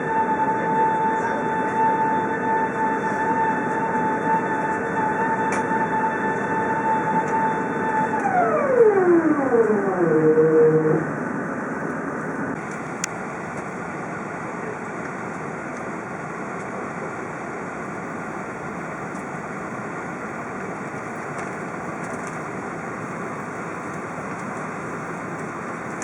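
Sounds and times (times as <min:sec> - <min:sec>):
airplane cabin engine rush: 0:00.0 - 0:26.0.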